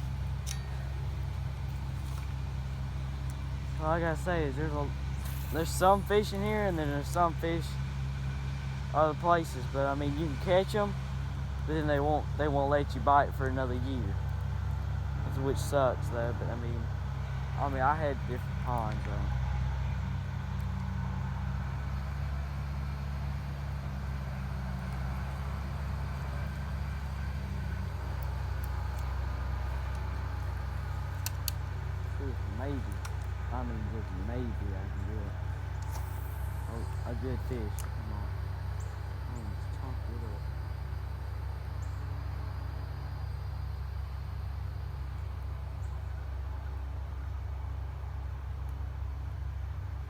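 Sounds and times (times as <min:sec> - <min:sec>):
engine humming: 0:00.0 - 0:50.0.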